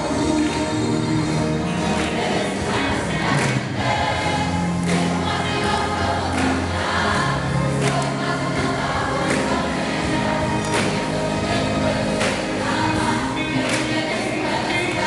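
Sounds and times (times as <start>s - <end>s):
choir singing in unison: 0.0s - 15.0s
instrumental backing with bass: 0.0s - 15.0s
percussion hits: 1.7s - 15.0s.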